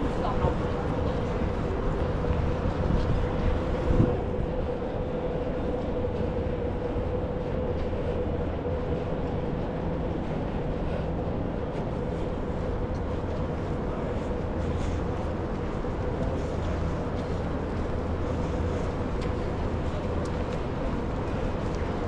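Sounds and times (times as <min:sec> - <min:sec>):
city street rumble: 0:00.0 - 0:22.0
constant hum tone: 0:00.0 - 0:22.0.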